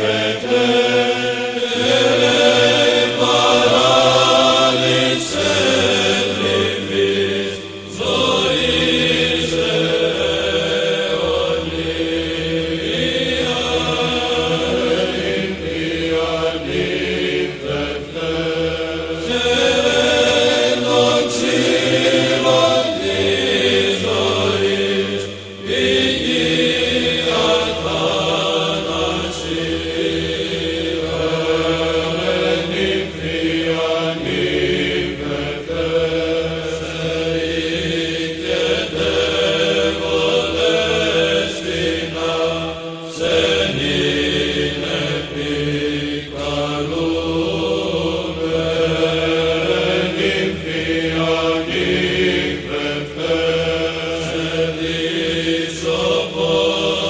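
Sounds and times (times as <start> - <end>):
voices chanting slow melody: 0.0 - 57.0.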